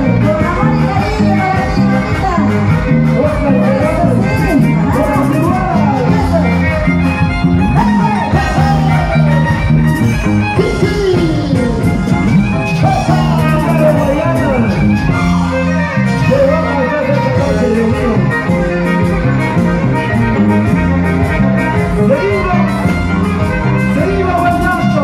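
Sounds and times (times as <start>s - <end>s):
harp bass notes: 0.0s - 25.0s
violin sliding melody: 0.0s - 25.0s.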